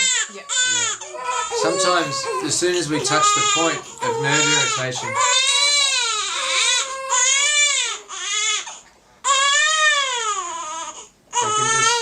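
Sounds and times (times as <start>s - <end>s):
baby crying: 0.0s - 12.0s.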